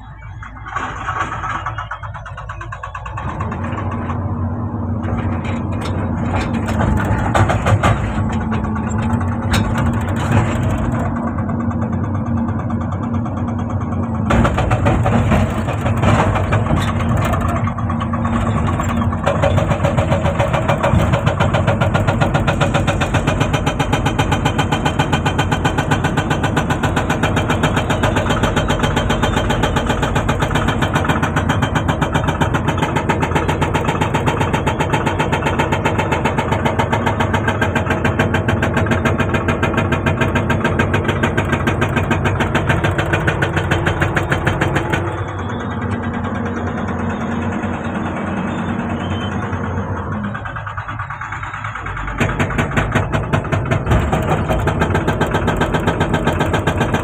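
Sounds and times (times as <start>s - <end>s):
excavator engine running: 0.0s - 57.0s
hydraulic breaker hammering rock: 5.1s - 47.8s, 50.4s - 57.0s.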